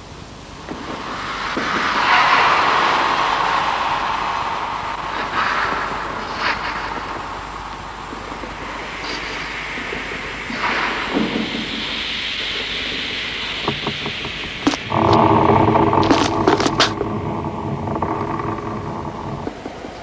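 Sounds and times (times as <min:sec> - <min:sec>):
wind-like rushing noise: 0:00.0 - 0:20.0.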